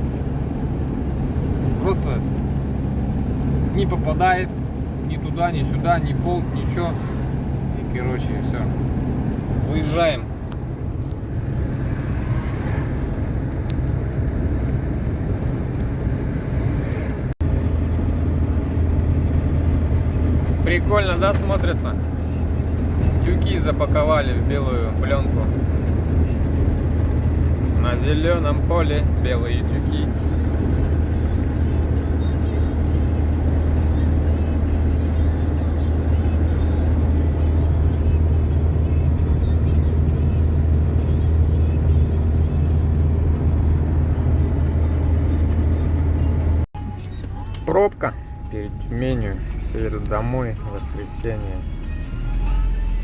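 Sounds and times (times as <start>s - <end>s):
van engine and road rumble: 0.0s - 53.0s.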